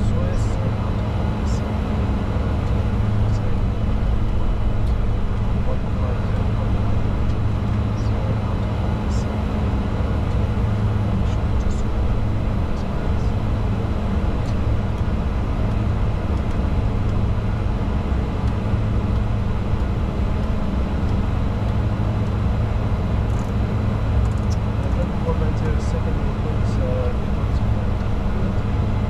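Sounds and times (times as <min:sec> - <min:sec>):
jet cockpit drone: 0:00.0 - 0:29.0.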